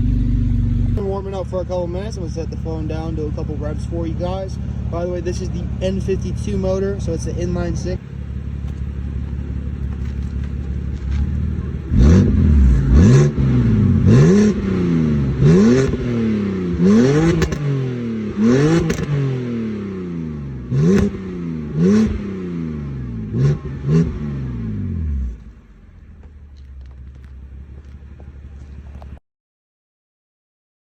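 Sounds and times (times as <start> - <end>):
car engine idling and revving: 0.0 - 29.2.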